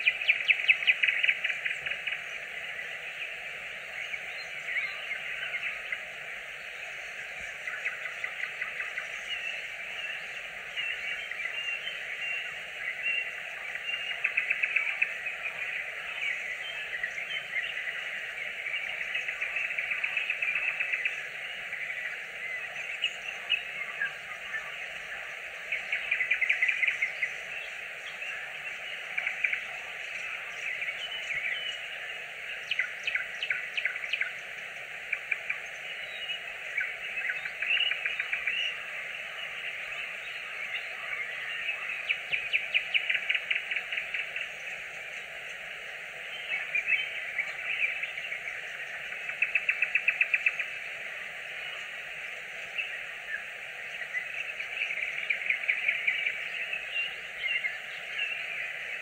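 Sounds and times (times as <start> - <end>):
nightingale singing: 0.0 - 59.0
steady background hiss: 0.0 - 59.0.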